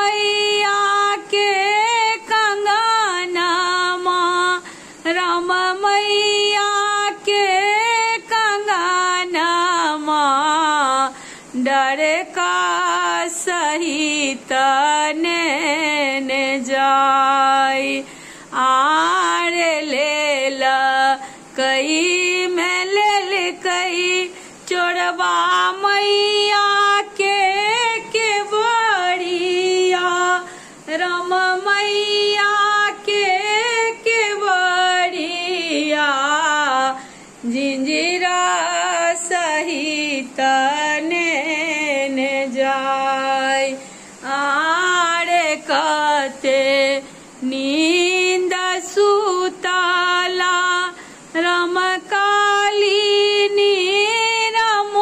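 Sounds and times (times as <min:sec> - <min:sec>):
woman singing solo: 0:00.0 - 0:55.0.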